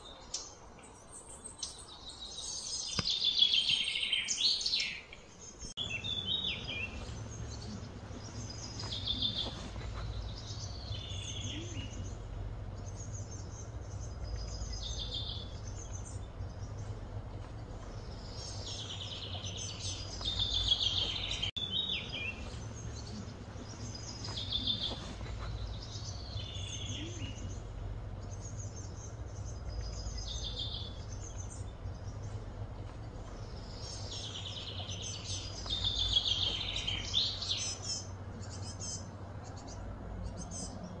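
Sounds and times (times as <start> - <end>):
birds chirping: 0.0 - 41.0
low background rumble: 5.4 - 41.0.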